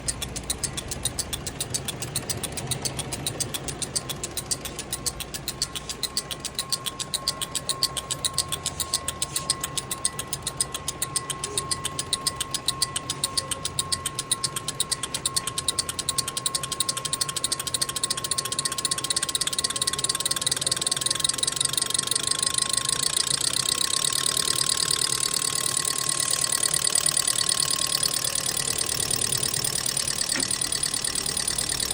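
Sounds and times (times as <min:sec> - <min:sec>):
diesel injectors ticking rapidly: 0:00.0 - 0:31.9.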